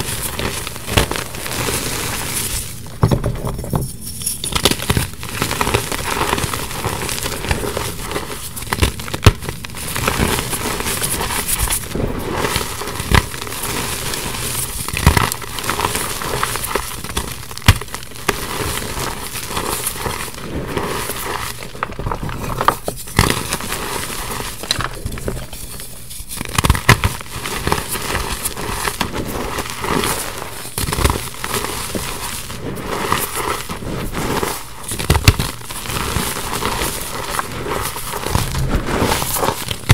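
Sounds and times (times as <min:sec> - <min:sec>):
chalk crunching and crackling: 0:00.0 - 0:02.9, 0:03.9 - 0:39.9.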